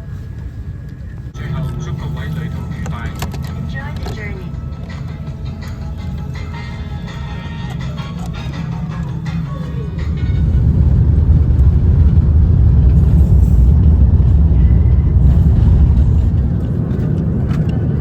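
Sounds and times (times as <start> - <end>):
vehicle rumbling in motion: 0.0 - 18.0.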